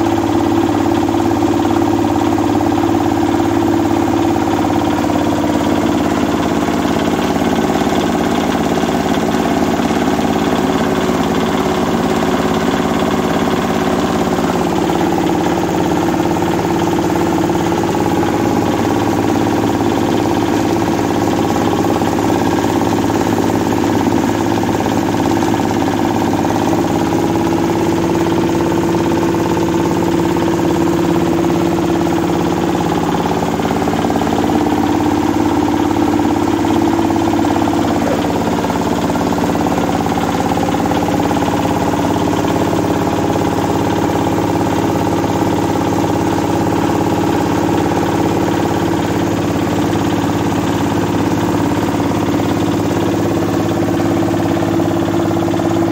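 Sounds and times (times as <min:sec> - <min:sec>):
diesel engine and mill droning: 0:00.0 - 0:55.9.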